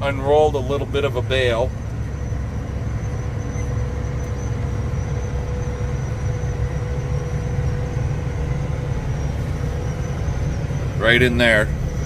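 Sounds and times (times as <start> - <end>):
thin steady whine: 0.0 - 12.0
tractor engine drone: 0.0 - 12.0.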